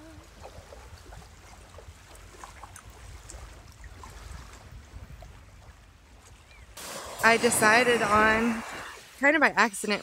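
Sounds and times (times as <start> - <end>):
wind rumble on microphone: 0.0 - 8.9.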